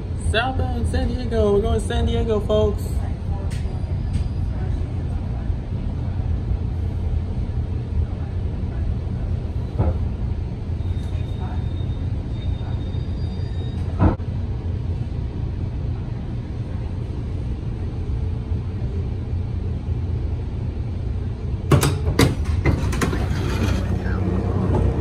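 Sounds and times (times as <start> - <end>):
rail car rumble: 0.0 - 25.0.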